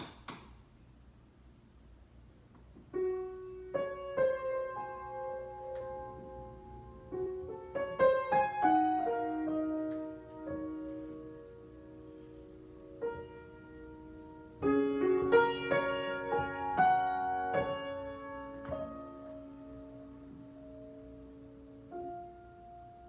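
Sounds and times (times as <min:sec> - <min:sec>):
solo piano: 0:02.7 - 0:23.0.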